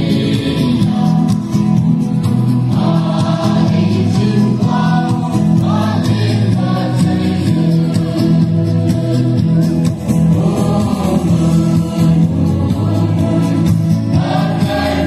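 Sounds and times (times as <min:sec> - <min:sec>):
choir singing over low chords: 0:00.0 - 0:15.0.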